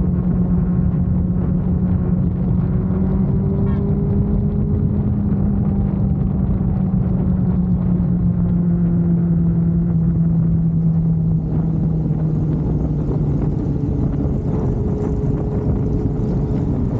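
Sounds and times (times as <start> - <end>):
motorcycle engine droning: 0.0 - 16.9.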